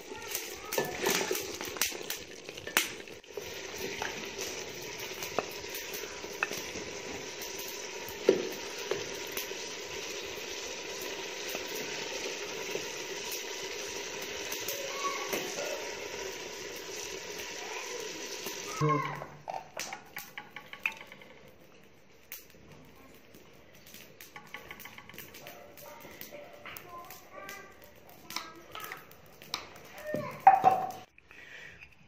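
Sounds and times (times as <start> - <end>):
curry sizzling and simmering: 0.0 - 31.2.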